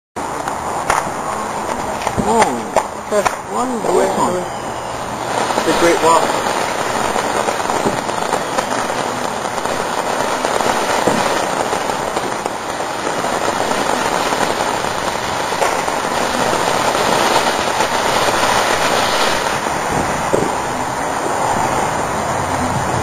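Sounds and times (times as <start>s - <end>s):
firework hissing and crackling: 0.2s - 23.0s.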